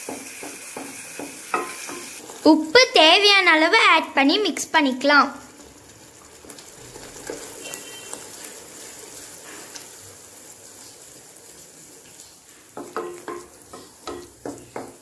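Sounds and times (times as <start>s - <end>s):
paste sizzling in oil: 0.0s - 15.0s.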